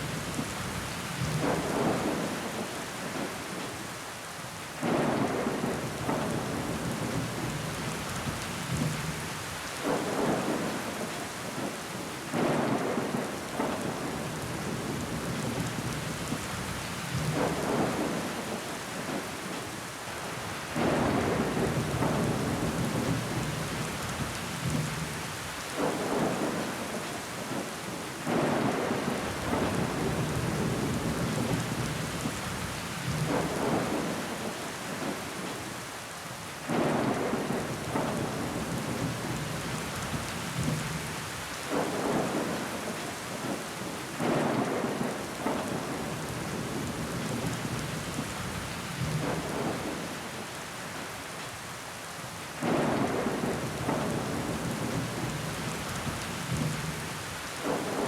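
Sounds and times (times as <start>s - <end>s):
heavy rain on window glass: 0.0s - 58.0s.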